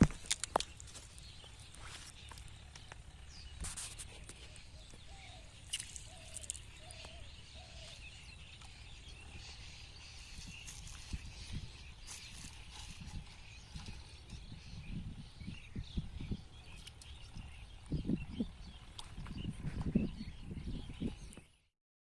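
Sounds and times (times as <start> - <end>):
bird calling: 0.0 - 21.6.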